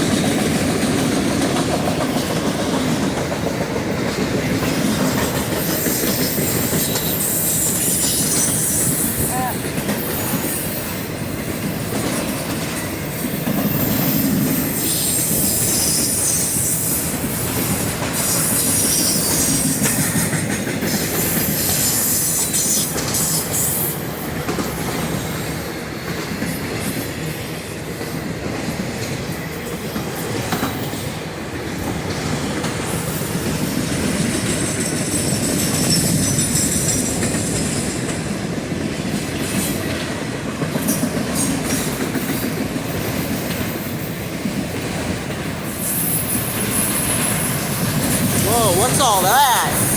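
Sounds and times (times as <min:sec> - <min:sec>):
train wheels rumbling on rails: 0:00.0 - 0:48.4.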